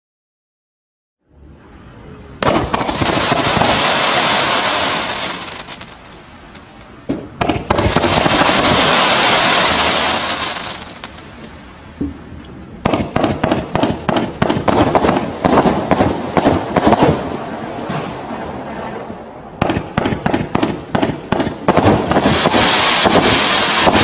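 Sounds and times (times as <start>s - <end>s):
firework shots cracking: 2.4s - 12.2s, 12.8s - 24.0s
firework fountains hissing: 2.4s - 24.0s.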